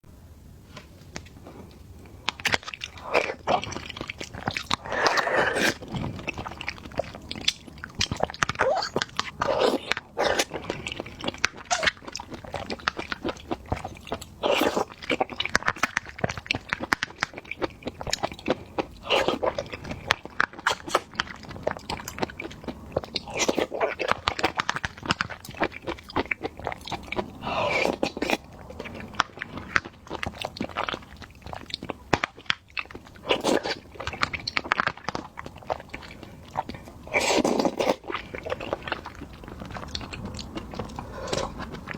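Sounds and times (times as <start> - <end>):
crunchy chewing: 0.8 - 41.9.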